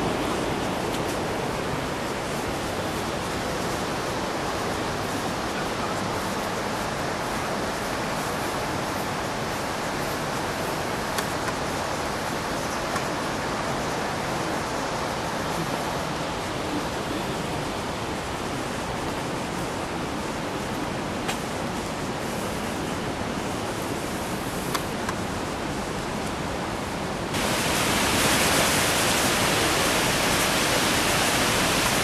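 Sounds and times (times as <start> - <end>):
water rushing over a weir: 0.0 - 32.0.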